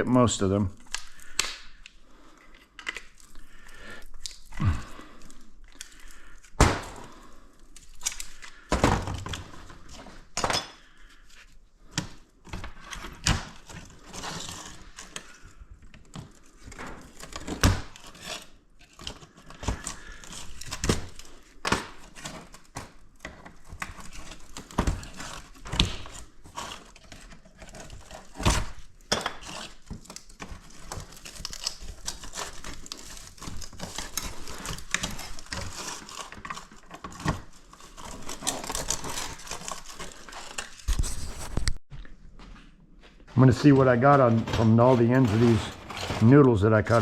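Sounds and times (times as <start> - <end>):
rustling and scraping: 4.4 - 47.0.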